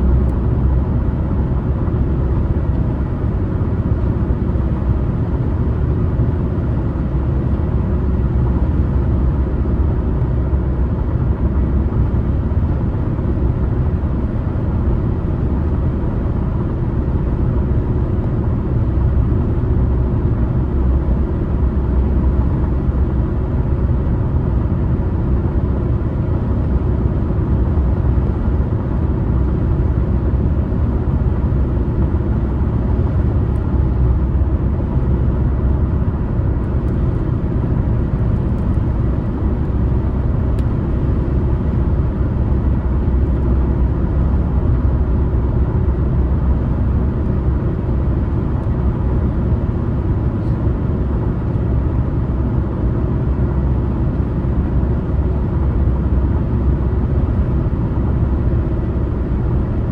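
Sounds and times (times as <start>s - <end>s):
car driving at highway speed: 0.0s - 59.9s.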